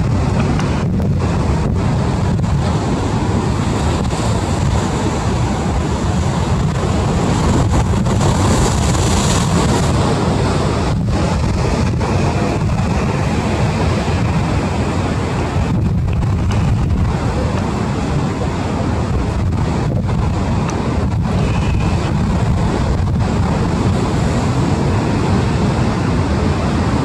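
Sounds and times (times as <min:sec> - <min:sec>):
surf breaking against breakwater: 0:00.0 - 0:27.0
wind buffeting microphone: 0:00.0 - 0:27.0.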